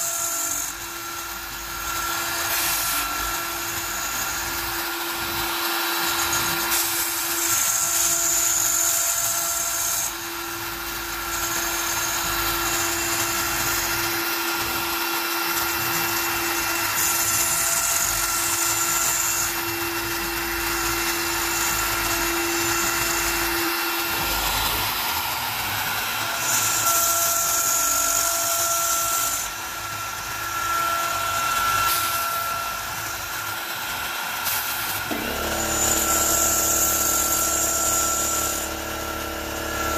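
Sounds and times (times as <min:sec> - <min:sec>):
bit cutting acrylic hiss: 0:00.0 - 0:39.9
router spindle whining: 0:00.0 - 0:39.9.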